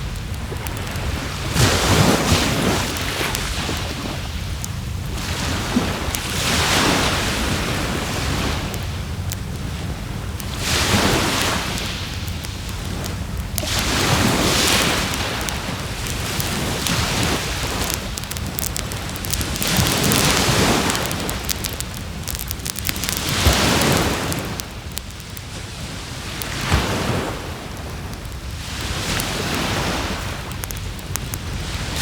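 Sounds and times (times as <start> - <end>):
bonfire crackling: 0.0 - 32.0
waves breaking on shore: 0.0 - 32.0.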